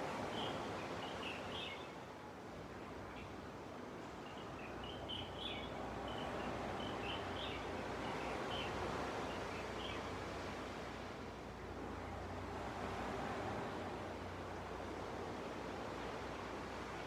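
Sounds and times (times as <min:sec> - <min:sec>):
ocean waves washing on beach: 0:00.0 - 0:17.0.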